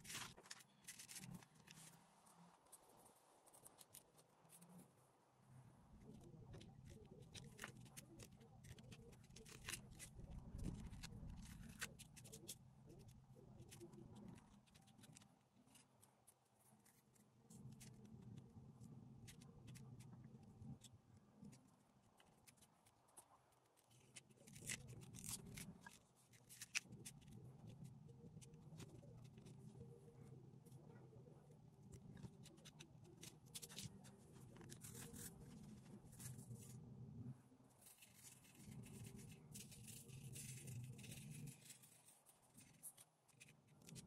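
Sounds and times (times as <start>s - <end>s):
faint scratching and small ticks: 0.0s - 44.0s.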